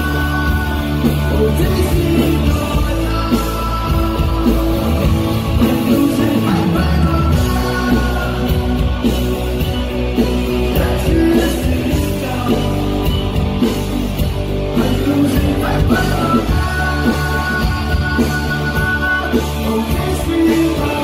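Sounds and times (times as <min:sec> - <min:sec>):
man singing: 0:00.0 - 0:09.2, 0:10.2 - 0:13.8, 0:14.7 - 0:21.0
drums: 0:00.0 - 0:21.0
electric guitar: 0:00.0 - 0:21.0.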